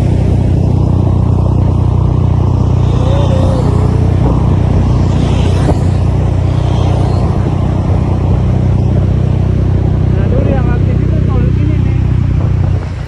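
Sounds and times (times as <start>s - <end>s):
motorcycle engine running: 0.0s - 13.0s
road and traffic noise: 0.0s - 13.0s.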